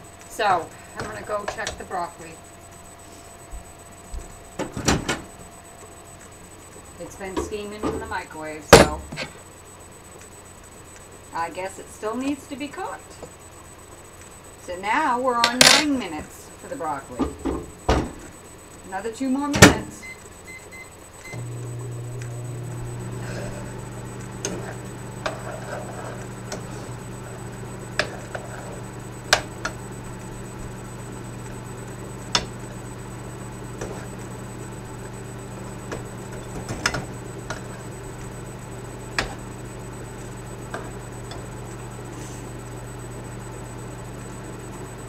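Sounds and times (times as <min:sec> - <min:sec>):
microwave oven humming: 0:00.0 - 0:45.0.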